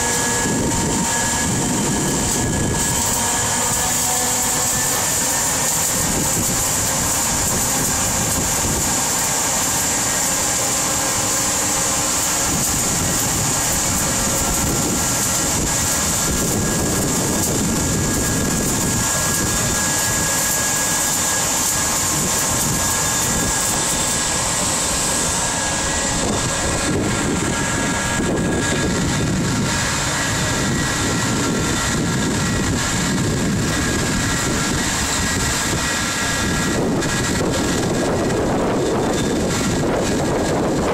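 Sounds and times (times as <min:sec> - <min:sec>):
industrial machinery drone: 0:00.0 - 0:40.9.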